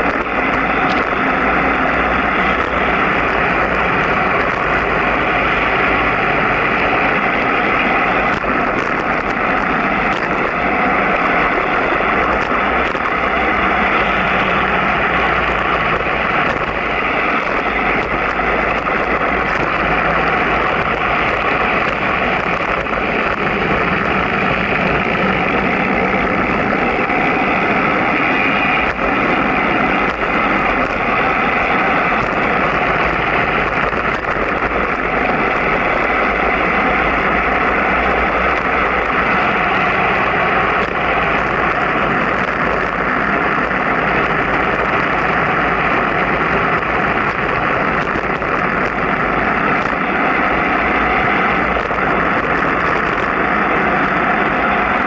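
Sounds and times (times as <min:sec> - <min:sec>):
road noise: 0:00.0 - 0:55.0
wind rushing: 0:00.0 - 0:55.0.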